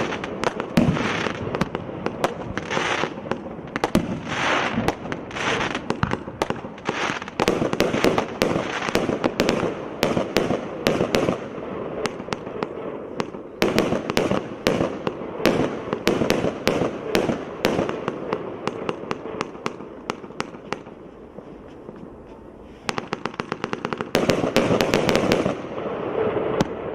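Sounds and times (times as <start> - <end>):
firework bursts with crackling: 0.0 - 26.9.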